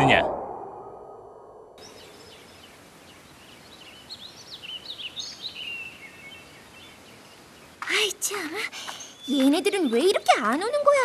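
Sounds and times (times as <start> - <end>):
birds chirping: 0.0 - 11.0
outdoor background hiss: 1.8 - 11.0.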